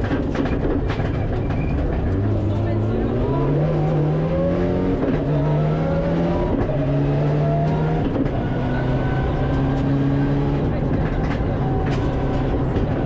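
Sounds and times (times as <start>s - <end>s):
car engine accelerating hard: 1.8s - 13.0s.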